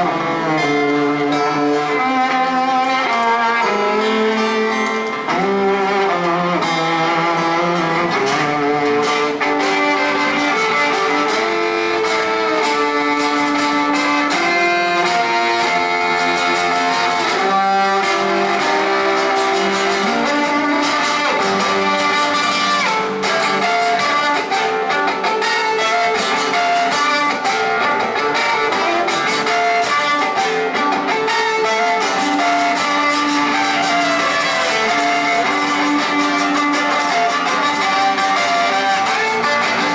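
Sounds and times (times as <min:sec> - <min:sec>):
acoustic guitar strumming: 0:00.0 - 0:39.9
violin held notes: 0:00.0 - 0:39.9.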